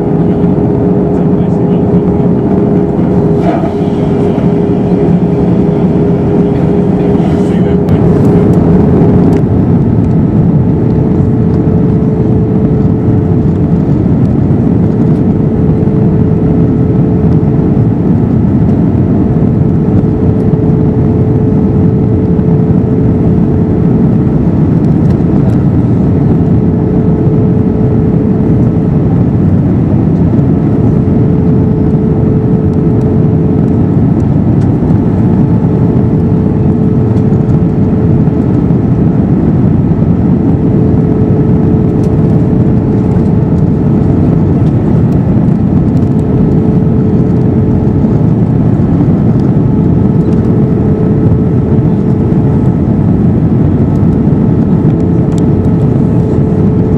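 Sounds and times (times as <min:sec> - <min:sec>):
airplane cabin engine drone: 0:00.0 - 0:56.9.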